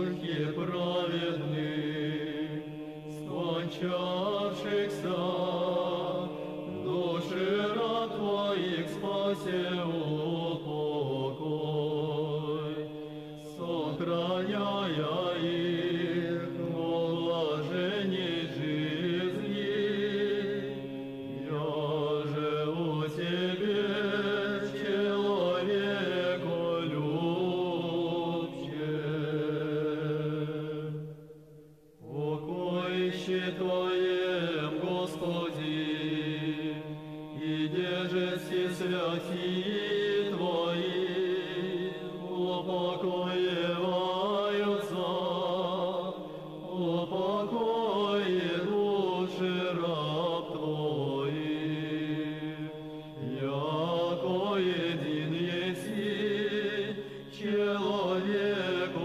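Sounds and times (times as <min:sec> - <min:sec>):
men's choir chanting in harmony: 0:00.0 - 0:31.2, 0:32.0 - 0:59.0.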